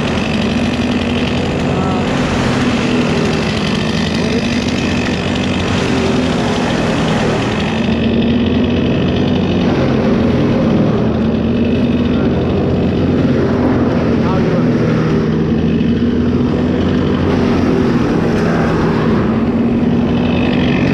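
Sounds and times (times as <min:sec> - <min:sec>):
large engine running: 0:00.0 - 0:20.9.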